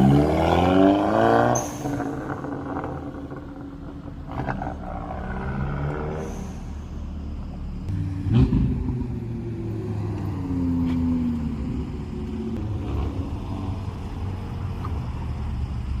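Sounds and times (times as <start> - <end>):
turbocharged car engine revving: 0.0 - 7.0, 7.7 - 14.1.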